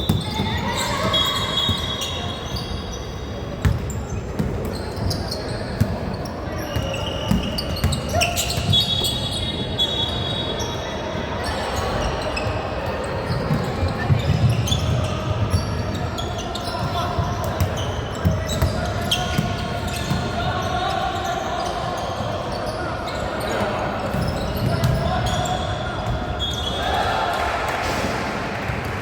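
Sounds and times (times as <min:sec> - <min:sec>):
shoe squeaks: 0:00.0 - 0:27.1
players' voices echoing: 0:00.0 - 0:29.0.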